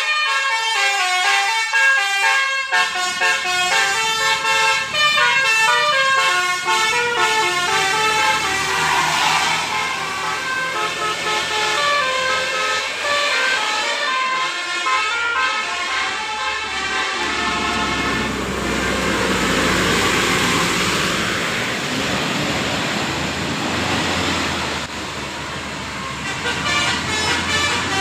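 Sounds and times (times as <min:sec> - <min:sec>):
melody bus horn: 0:00.0 - 0:20.5, 0:26.0 - 0:28.0
bus driving past: 0:02.8 - 0:28.0.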